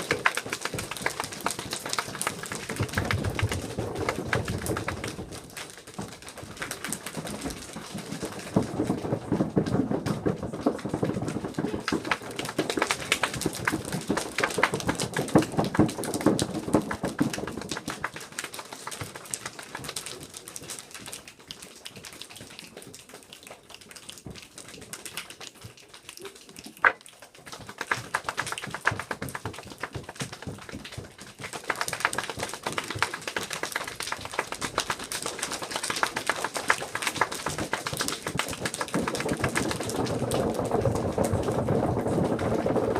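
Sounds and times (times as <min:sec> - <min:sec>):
children tapping imitating rain: 0:00.0 - 0:42.9.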